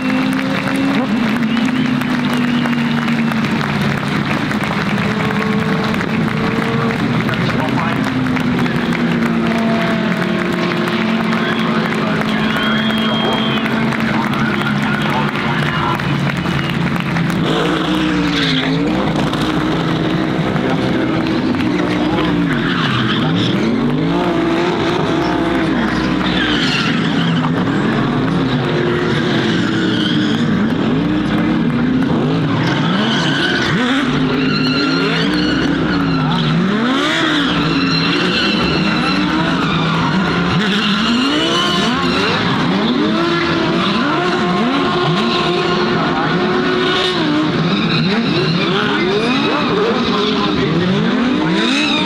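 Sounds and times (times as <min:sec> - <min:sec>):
race car engines revving: 0:00.0 - 0:52.0
tyres squealing and skidding: 0:00.0 - 0:52.0.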